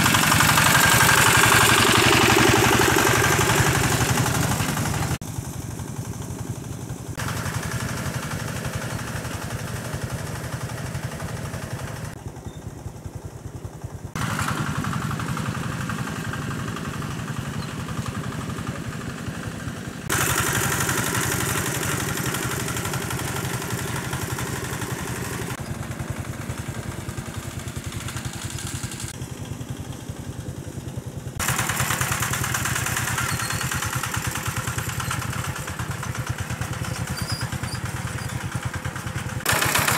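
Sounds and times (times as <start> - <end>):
engine-driven water pump running: 0.0 - 39.9.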